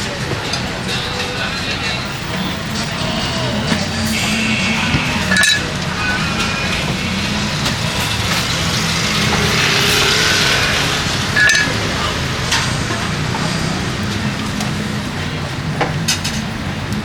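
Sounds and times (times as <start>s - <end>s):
low hum of traffic: 0.0s - 17.0s.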